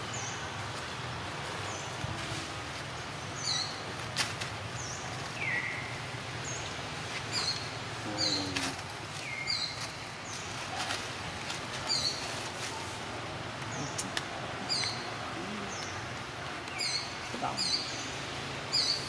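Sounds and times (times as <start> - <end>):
outdoor background: 0.0 - 19.0.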